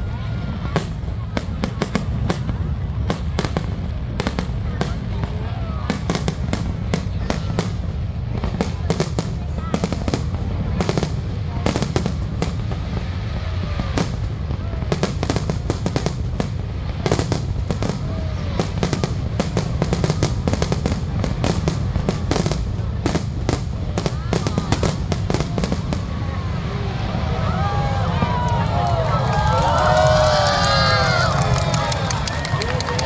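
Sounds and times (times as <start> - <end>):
fireworks bangs and crackles: 0.0 - 33.0
voices: 0.0 - 33.0.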